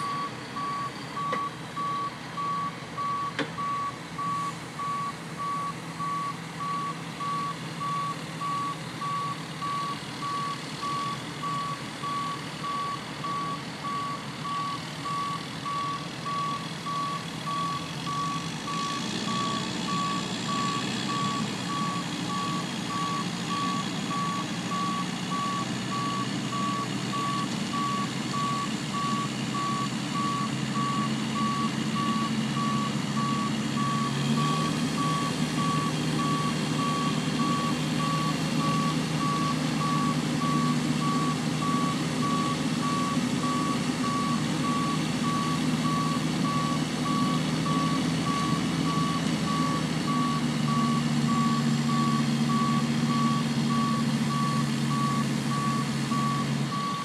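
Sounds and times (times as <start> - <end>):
diesel truck engine: 0.0 - 57.0
reversing beeper: 0.0 - 57.0.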